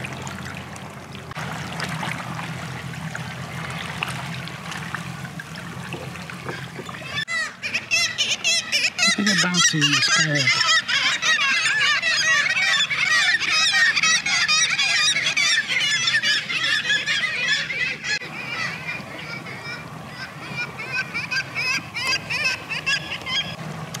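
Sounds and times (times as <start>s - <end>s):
seabirds calling: 0.0s - 24.0s.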